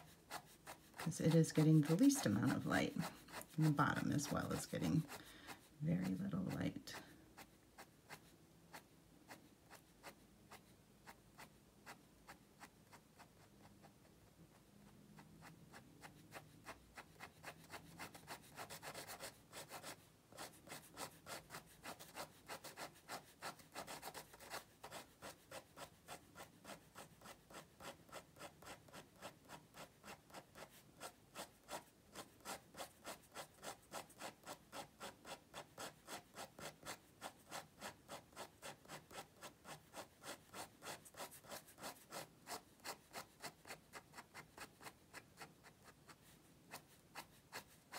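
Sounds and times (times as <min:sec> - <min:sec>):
pen scratching on paper: 0:00.0 - 0:47.9.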